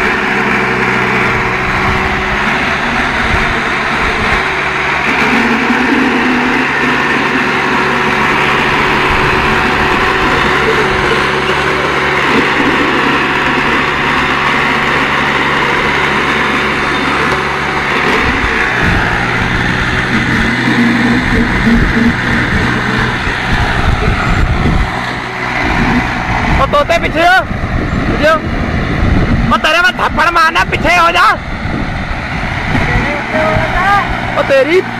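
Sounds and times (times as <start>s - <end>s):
tyres spinning in dirt: 0.0s - 28.4s
tractor diesel engines under load: 0.0s - 34.9s.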